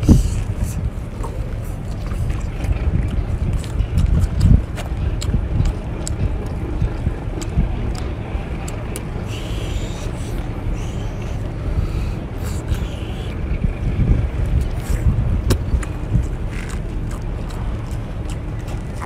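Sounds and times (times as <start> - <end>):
wet mouth clicks: 0.0 - 13.4, 14.6 - 19.0
wind buffeting microphone: 0.0 - 19.0.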